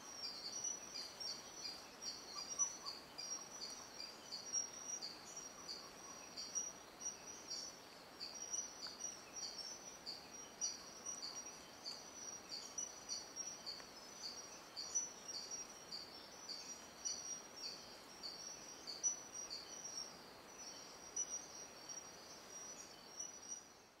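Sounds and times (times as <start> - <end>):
faint forest hiss: 0.0 - 24.0
insect chirping: 0.0 - 24.0.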